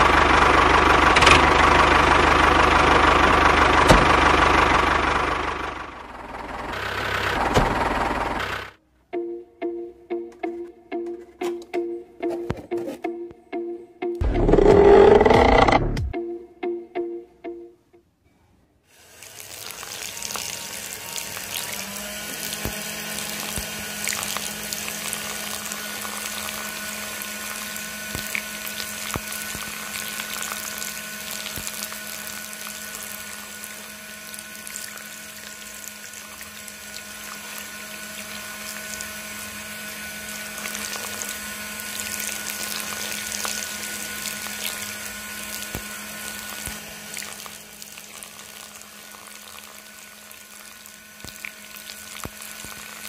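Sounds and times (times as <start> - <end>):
small electric motor whining: 0.0 - 8.8, 14.2 - 16.1, 19.0 - 53.0.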